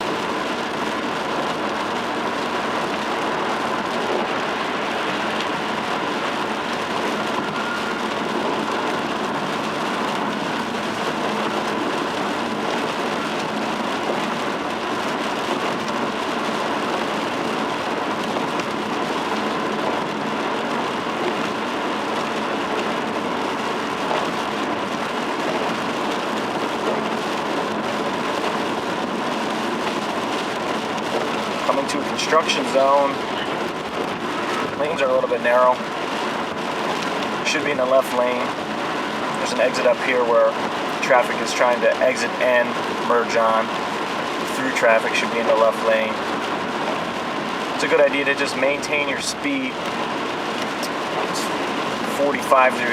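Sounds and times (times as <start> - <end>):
rain: 0.0 - 52.9
tyres on wet pavement: 0.0 - 52.9.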